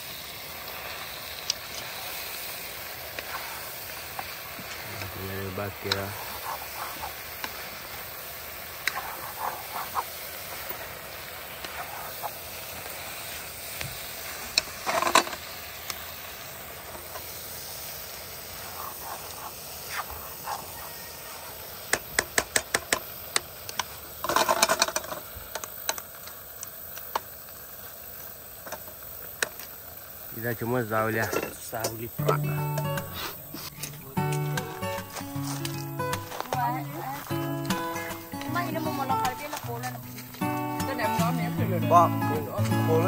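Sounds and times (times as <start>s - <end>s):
food hissing in a pot: 0.0s - 43.0s.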